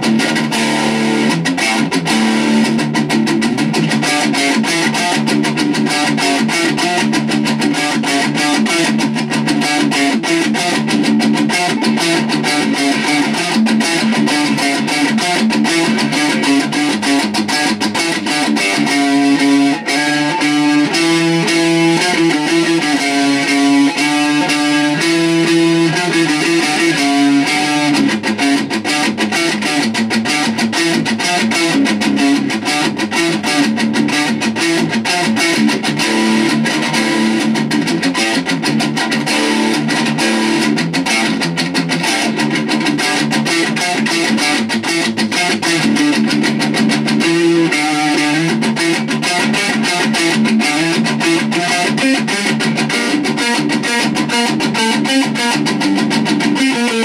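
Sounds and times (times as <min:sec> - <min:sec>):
electric guitar riff: 0:00.0 - 0:57.0.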